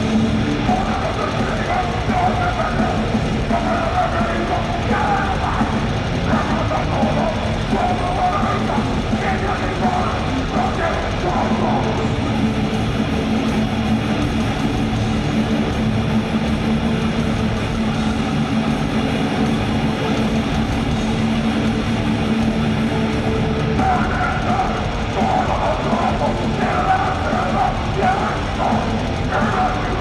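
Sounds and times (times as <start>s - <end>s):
distorted electric guitar chord: 0.0s - 30.0s.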